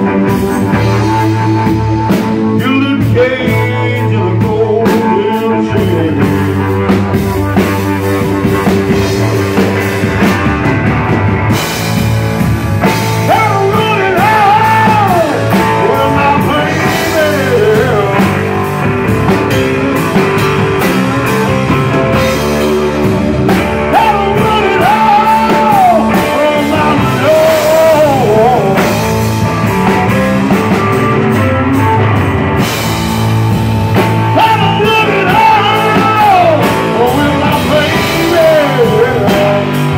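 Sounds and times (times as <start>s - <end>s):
bass guitar: 0.0s - 39.9s
drum kit: 0.0s - 39.9s
electric guitar: 0.0s - 39.9s
high bending melody line: 0.0s - 39.9s.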